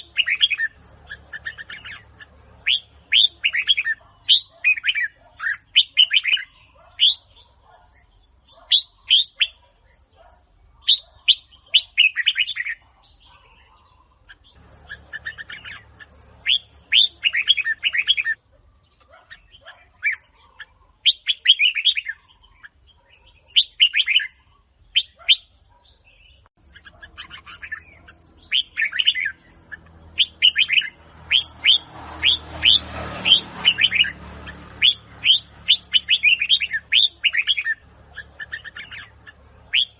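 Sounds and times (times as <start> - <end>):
bird singing whistled notes: 0.0 - 9.6, 10.8 - 20.4, 21.0 - 34.2, 34.8 - 39.9.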